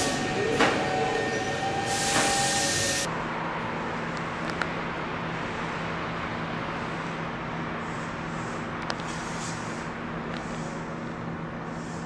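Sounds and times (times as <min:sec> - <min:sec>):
electric train low hum: 0:00.0 - 0:12.0.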